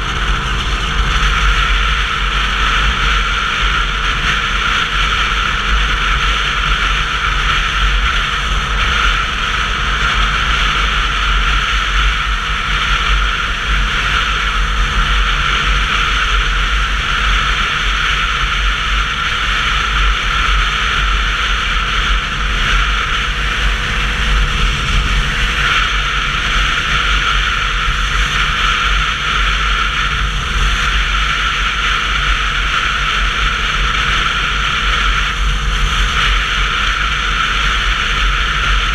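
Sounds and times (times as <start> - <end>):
motorcycle engine rumble: 0.0 - 38.9
wind rushing over microphone: 0.0 - 38.9.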